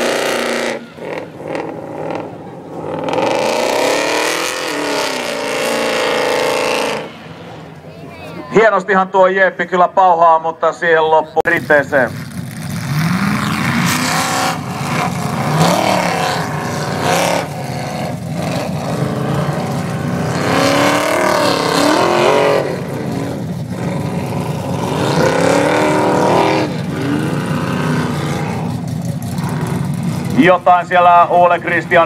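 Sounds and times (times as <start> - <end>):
car engine revving hard: 0.0 - 7.5, 12.2 - 30.4.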